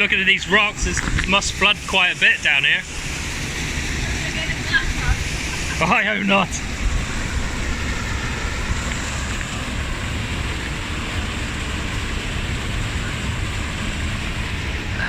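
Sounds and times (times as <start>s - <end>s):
rushing rocky stream: 0.0s - 15.0s
wind buffeting microphone: 0.0s - 15.0s.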